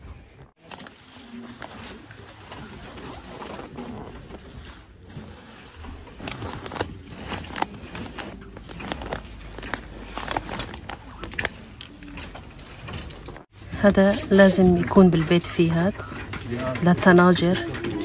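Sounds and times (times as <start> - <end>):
goods rustling and clinking on shelves: 0.0 - 18.0.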